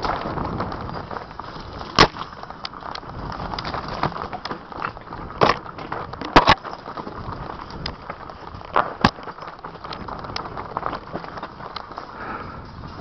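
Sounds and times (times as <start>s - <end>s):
bike knocking over bumps: 0.0s - 13.0s
bike tyres rolling over dirt: 0.0s - 13.0s.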